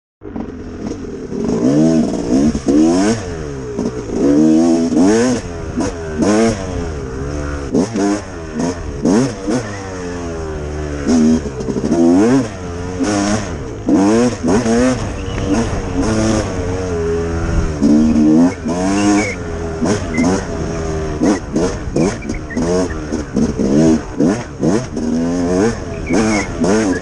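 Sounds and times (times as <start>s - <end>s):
dirt bike engine revving: 0.2s - 27.0s.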